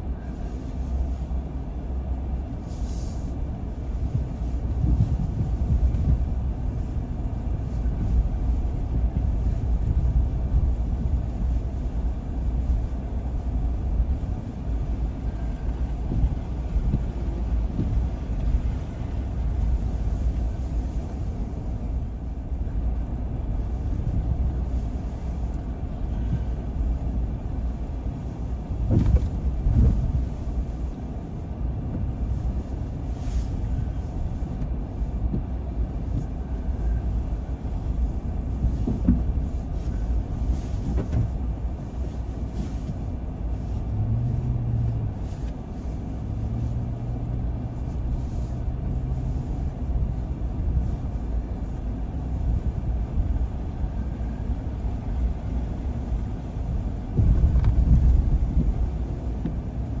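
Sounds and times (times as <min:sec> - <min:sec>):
car engine and tyre rumble: 0:00.0 - 1:00.0
low engine hum: 0:00.0 - 1:00.0.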